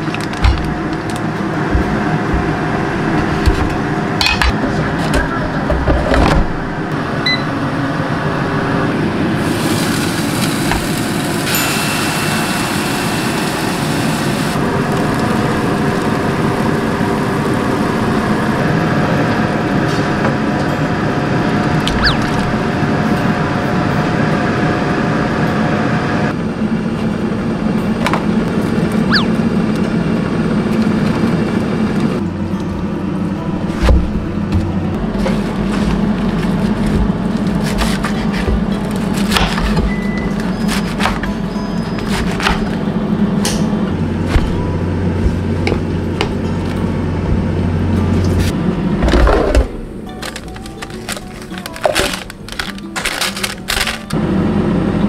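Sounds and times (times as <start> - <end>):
machine hum and whir: 0.0 - 55.0.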